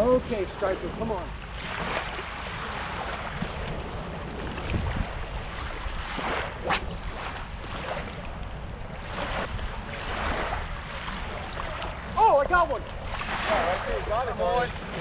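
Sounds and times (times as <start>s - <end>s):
small waves lapping on shore: 0.0s - 15.0s
wind on microphone: 0.0s - 15.0s.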